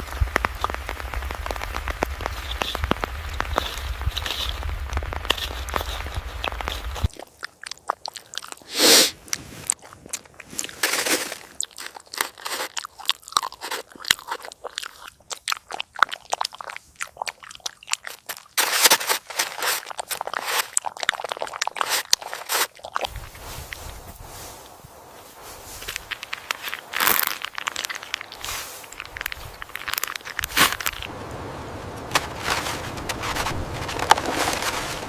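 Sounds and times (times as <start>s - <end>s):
dog chewing crunchy food: 0.1s - 23.1s, 25.8s - 31.1s.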